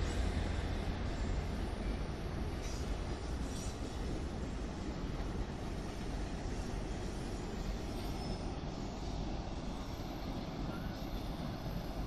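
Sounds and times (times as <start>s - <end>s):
distant train wheels rumbling: 0.0s - 12.0s.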